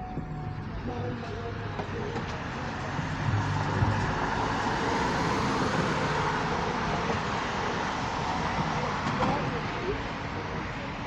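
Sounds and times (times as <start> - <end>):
car tyres and engine rushing: 0.0 - 11.0.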